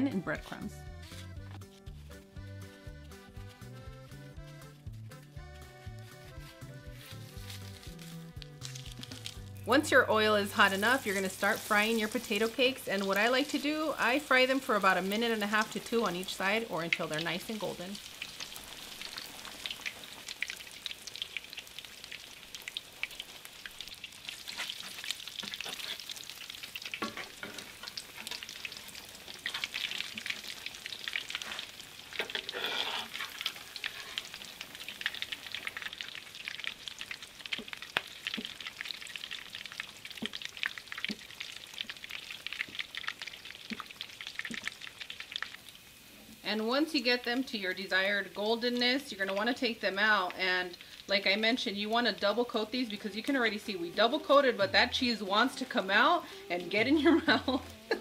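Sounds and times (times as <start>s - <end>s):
potato cakes frying in oil: 6.6s - 58.0s.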